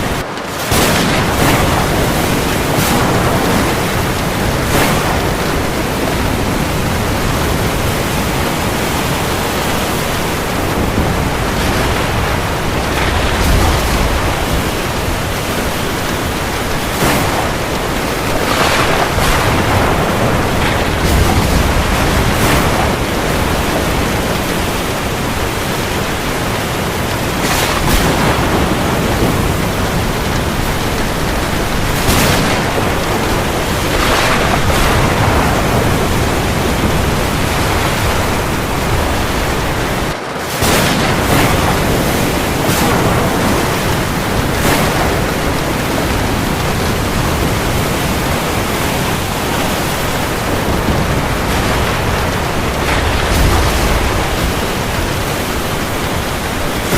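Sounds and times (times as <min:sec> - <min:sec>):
heavy rain falling on sea: 0:00.0 - 0:56.9.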